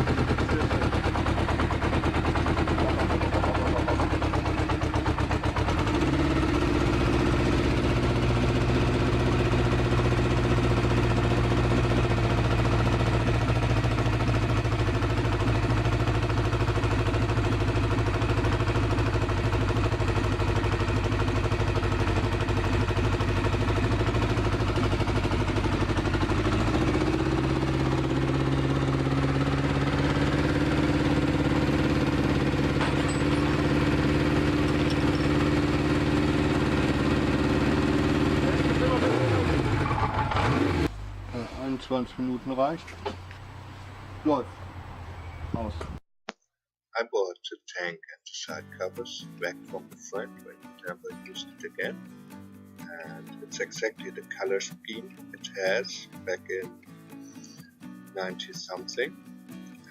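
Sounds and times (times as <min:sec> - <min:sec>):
motorcycle engine running: 0:00.0 - 0:46.0, 0:49.4 - 0:56.6, 0:57.2 - 0:59.9.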